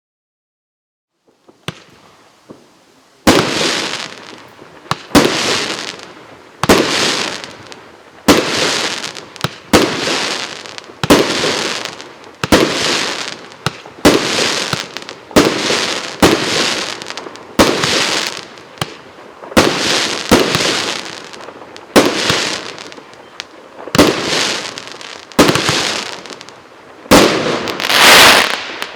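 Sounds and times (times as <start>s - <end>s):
firework shots banging and bursting: 1.4s - 2.6s, 3.2s - 28.9s.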